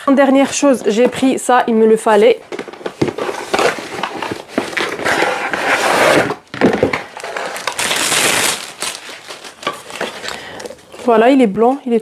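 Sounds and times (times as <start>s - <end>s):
cardboard and packing wrap rustling: 0.3s - 11.5s.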